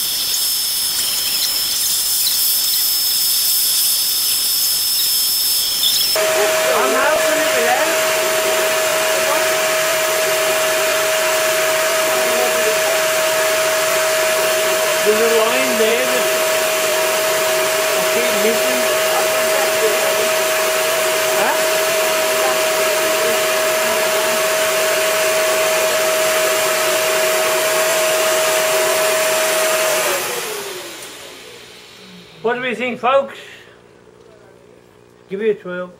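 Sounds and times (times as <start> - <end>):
vacuum cleaner running: 0.0 - 34.8.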